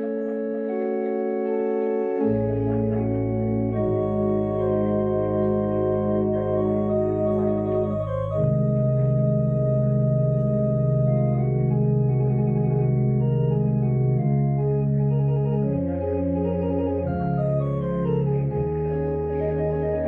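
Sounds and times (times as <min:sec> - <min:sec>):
organ playing sustained chords: 0:00.0 - 0:20.0.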